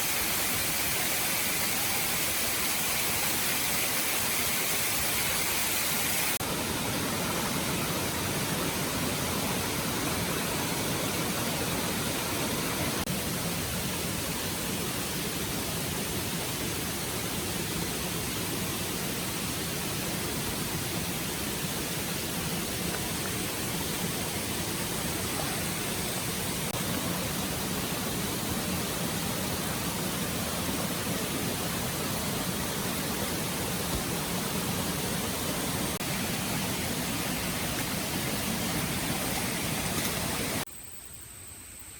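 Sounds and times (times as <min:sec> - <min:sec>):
stream water rushing: 0:00.0 - 0:40.7.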